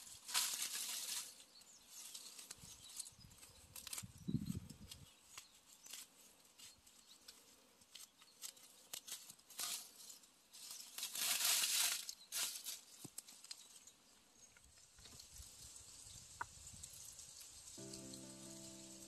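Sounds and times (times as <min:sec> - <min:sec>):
dry leaves and moss rustling: 0:00.0 - 0:19.0
small crackles: 0:00.0 - 0:19.0.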